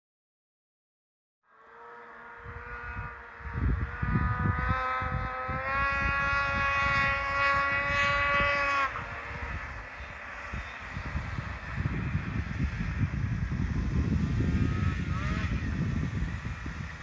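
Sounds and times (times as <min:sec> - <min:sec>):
snowmobile engine revving: 0:01.5 - 0:17.0
wind buffeting microphone: 0:02.4 - 0:17.0.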